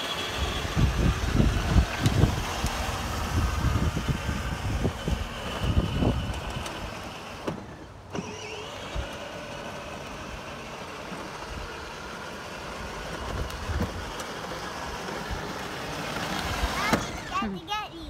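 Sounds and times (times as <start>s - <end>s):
small electric motor whirring: 0.0s - 17.6s
plastic wheels rolling on asphalt: 0.0s - 18.0s.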